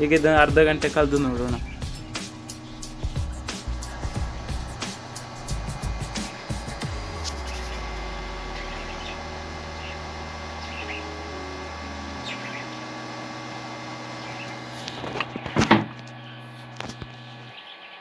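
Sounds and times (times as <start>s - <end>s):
cooler low hum: 0.0s - 18.0s.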